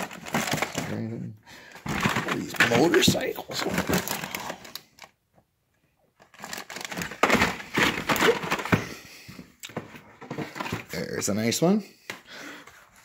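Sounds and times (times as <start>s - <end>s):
toy packages rustling and clattering: 0.0s - 5.2s, 6.0s - 11.8s.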